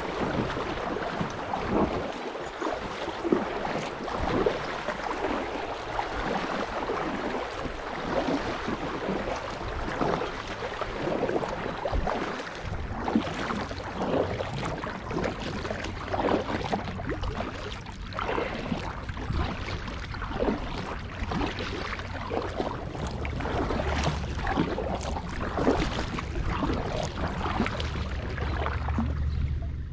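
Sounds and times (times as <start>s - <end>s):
paddle splashing in river: 0.0s - 29.8s
low steady rumble: 0.0s - 29.9s.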